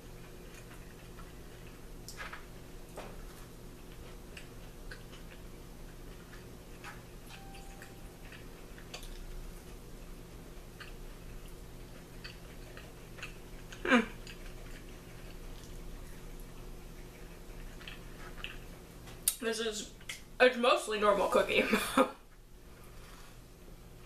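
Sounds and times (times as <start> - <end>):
person chewing cookie: 0.0 - 19.3
steady low hum: 0.0 - 24.0.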